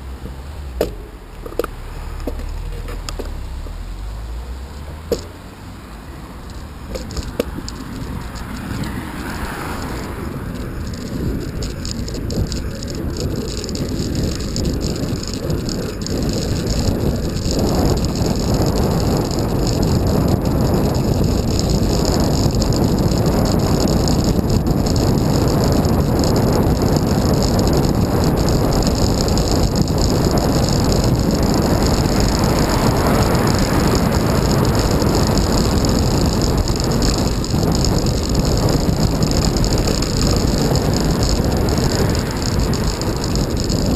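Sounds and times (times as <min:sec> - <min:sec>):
bicycle rattle: 0:00.0 - 0:05.5, 0:06.4 - 0:43.9
tyres on wet tarmac: 0:00.0 - 0:43.9
wind rushing over microphone: 0:00.0 - 0:43.9.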